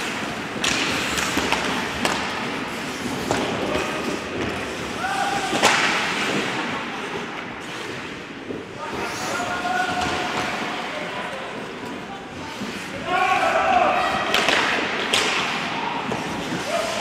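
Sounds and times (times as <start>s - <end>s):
hockey sticks and puck knocking: 0.0s - 10.9s, 13.8s - 17.0s.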